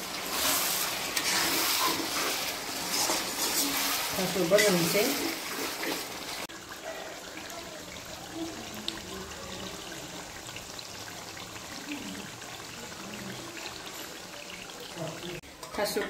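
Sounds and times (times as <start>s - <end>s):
food simmering in a wok: 0.0s - 16.0s.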